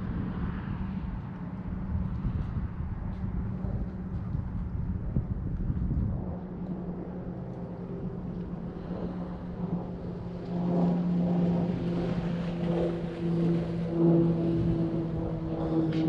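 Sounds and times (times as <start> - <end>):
engine drone: 0.0 - 16.0.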